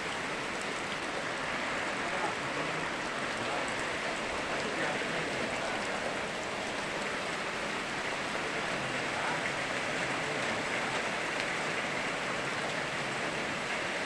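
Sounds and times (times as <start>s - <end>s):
river water rushing: 0.0s - 14.0s
steady rain falling: 0.0s - 14.0s.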